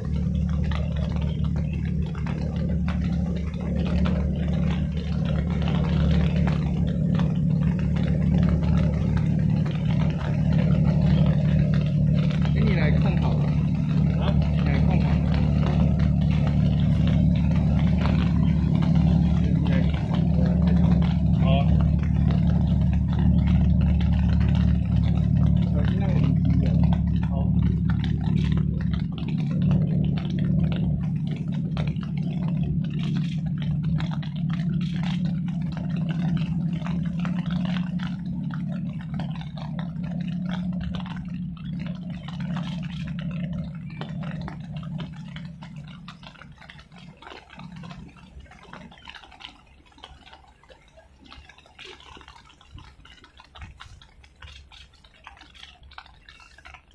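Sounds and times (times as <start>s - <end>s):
engine running with low drone: 0.0s - 56.9s.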